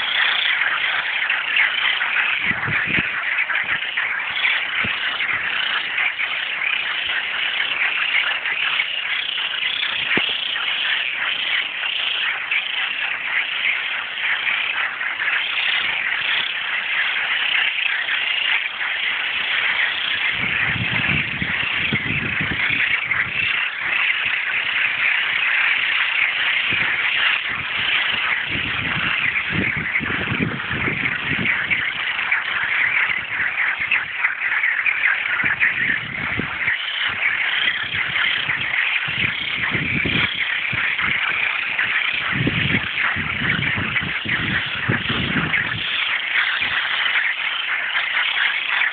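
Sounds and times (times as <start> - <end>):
frogs calling in chorus: 0.0 - 48.9.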